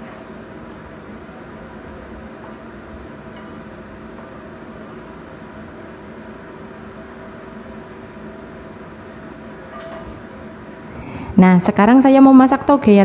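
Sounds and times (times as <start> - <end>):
fan motor whirring: 0.0 - 13.0.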